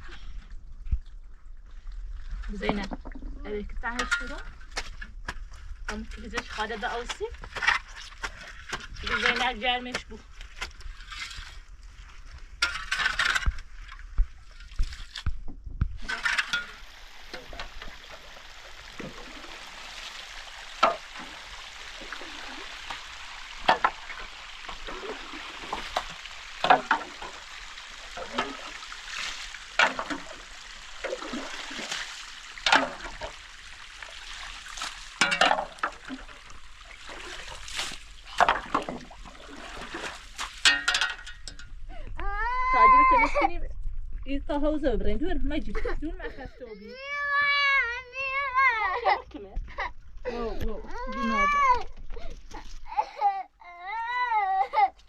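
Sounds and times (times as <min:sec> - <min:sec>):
water splashing and sloshing: 0:00.0 - 0:53.3.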